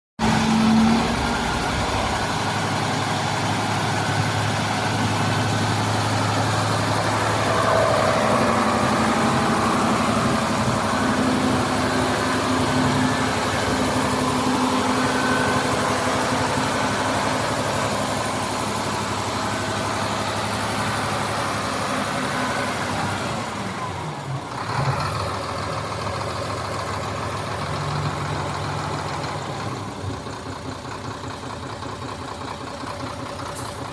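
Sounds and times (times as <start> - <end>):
diesel truck engine running: 0.2 - 33.9.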